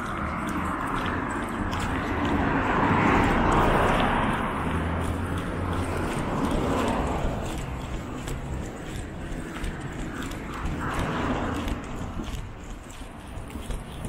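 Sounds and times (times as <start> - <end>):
car passing: 0.0 - 14.0
vehicle passing: 0.0 - 14.0.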